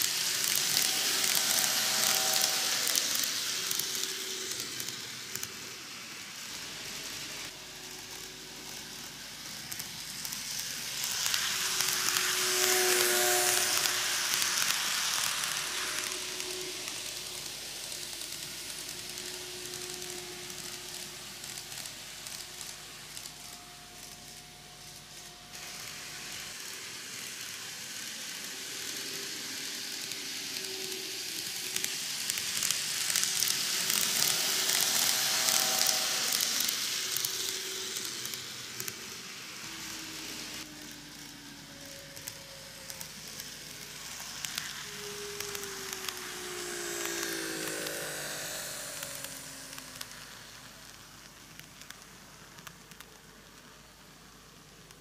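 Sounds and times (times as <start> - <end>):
faint whine: 0.0 - 26.5, 28.5 - 55.0
model train wheels on rails: 0.0 - 55.0.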